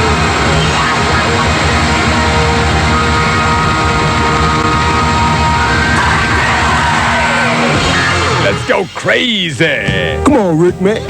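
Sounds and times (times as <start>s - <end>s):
rock music with distorted guitar: 0.0s - 11.0s.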